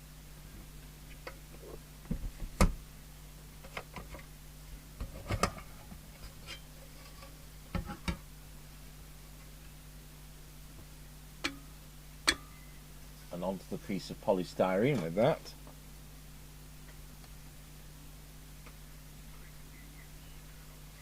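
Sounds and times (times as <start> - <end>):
low mains hum: 0.0 - 21.0.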